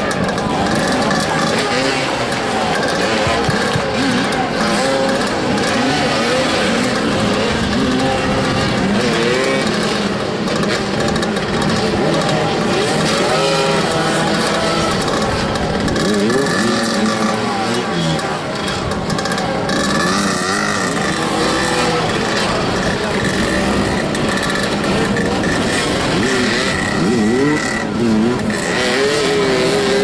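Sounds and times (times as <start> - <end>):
motorcycles revving: 0.0 - 30.0.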